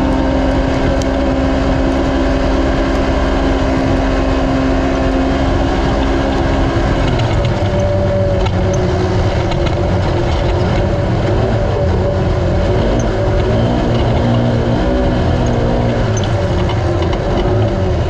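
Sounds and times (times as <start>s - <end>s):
engine running at high revs: 0.0s - 18.0s.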